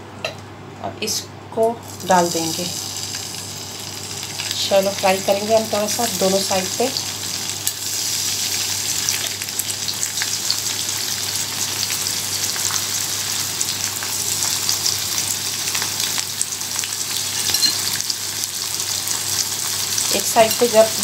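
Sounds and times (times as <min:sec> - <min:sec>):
shrimp sizzling in hot oil: 0:01.8 - 0:21.0.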